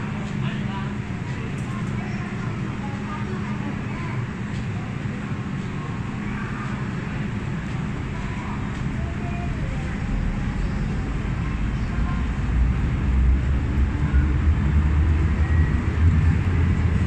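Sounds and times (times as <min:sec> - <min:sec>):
train motors and wheels rumbling: 0:00.0 - 0:17.0.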